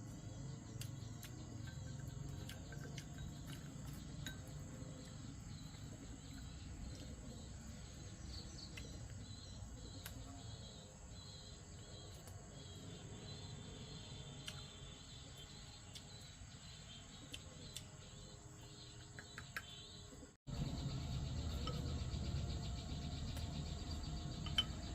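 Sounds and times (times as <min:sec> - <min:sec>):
small chirping calls: 0:00.0 - 0:24.9.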